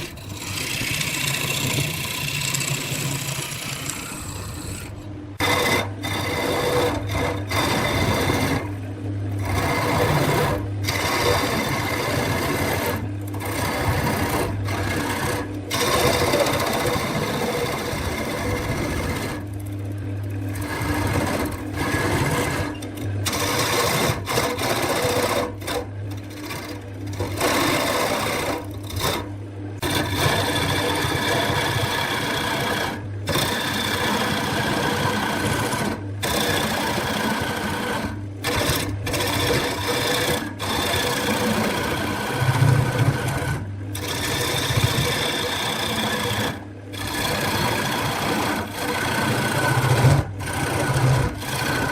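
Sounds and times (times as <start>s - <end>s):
wood lathe motor whine: 0.0s - 51.9s.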